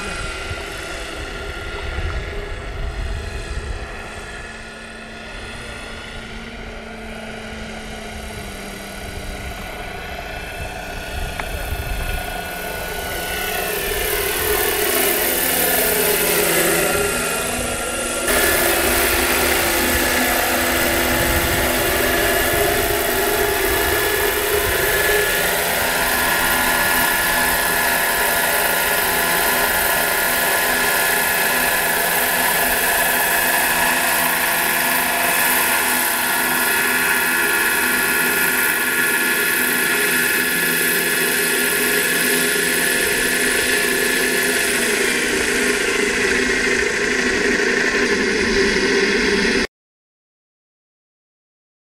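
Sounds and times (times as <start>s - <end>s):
model helicopter rotors whining: 0.0s - 49.7s.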